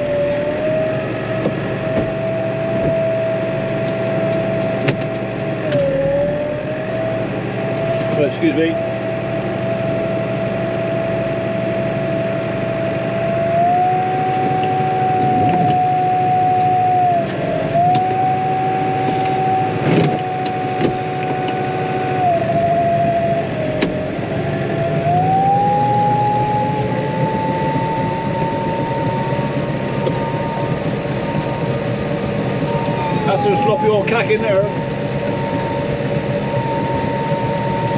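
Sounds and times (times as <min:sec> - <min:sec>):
tractor engine whining under load: 0:00.0 - 0:37.9.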